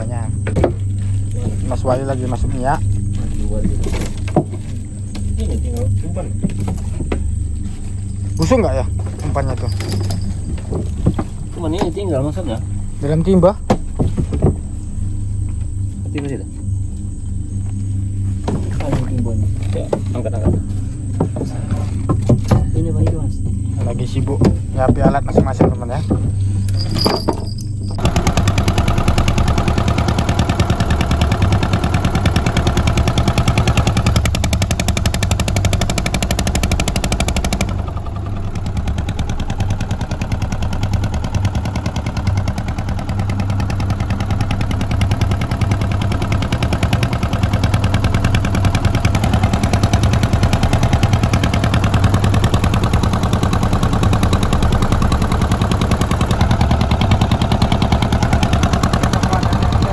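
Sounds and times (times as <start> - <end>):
boat engine puttering: 0.0 - 59.9.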